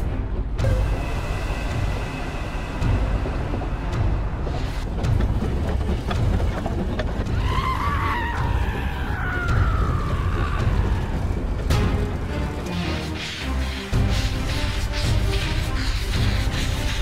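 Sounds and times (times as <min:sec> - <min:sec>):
steam train rumbling: 0:00.0 - 0:17.0
wheels clicking on track: 0:02.5 - 0:17.0.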